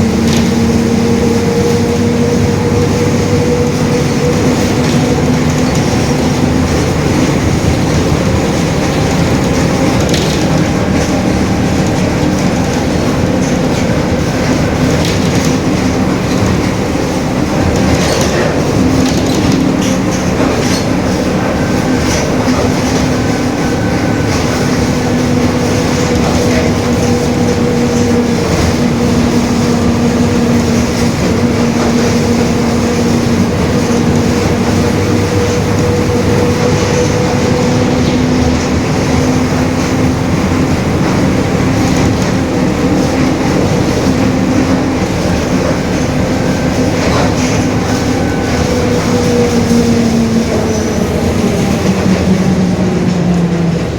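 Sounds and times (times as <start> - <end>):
bus differential drone: 0.0 - 53.9
bus running noise: 0.0 - 53.9.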